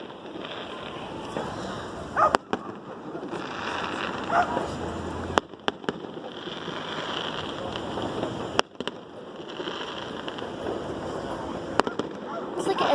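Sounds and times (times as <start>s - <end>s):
fireworks bangs: 0.0s - 12.9s
steady background noise: 0.0s - 12.9s.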